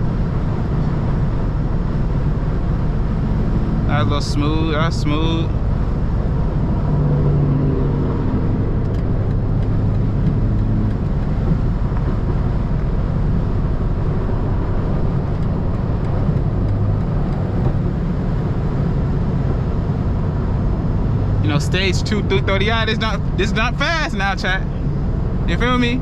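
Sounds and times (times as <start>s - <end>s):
car engine droning: 0.0s - 26.0s
tyre and road noise: 0.0s - 26.0s.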